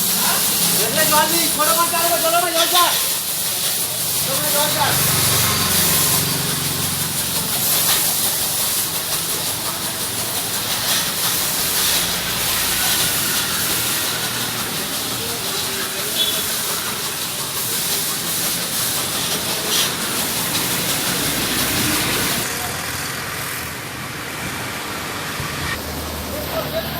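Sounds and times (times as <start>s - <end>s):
pressure washer spraying: 0.0s - 26.9s.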